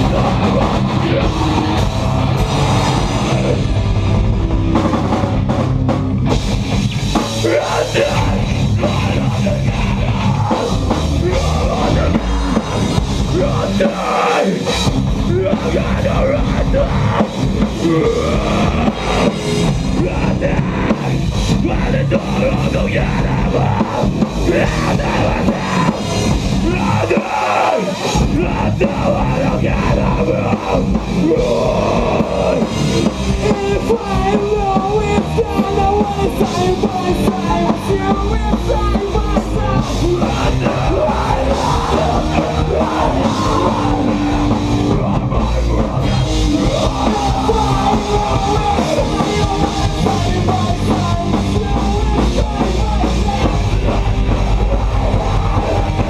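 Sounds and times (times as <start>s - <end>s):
drum kit: 0.0s - 56.0s
rock band playing: 0.0s - 56.0s
person singing: 7.4s - 56.0s.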